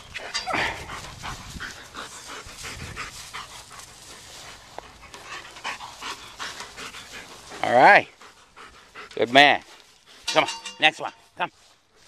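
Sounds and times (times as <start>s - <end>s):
dog panting: 0.2s - 10.3s.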